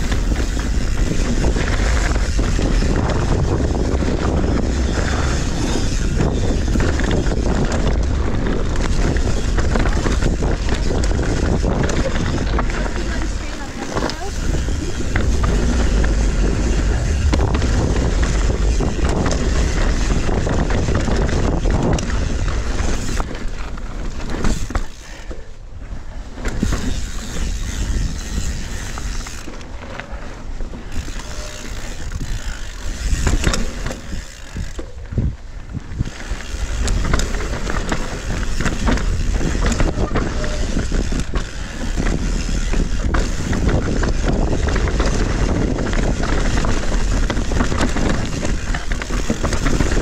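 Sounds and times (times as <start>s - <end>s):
bike knocks and rattles: 0.0s - 50.0s
tyres on dirt and rock: 0.0s - 50.0s
wind buffeting microphone: 0.0s - 50.0s.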